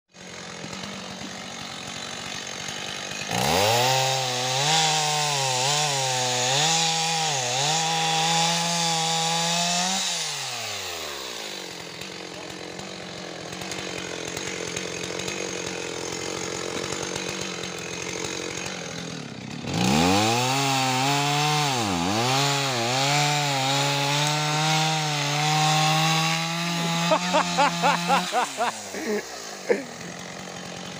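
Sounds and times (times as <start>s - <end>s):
chainsaw cutting logs: 0.1s - 30.9s.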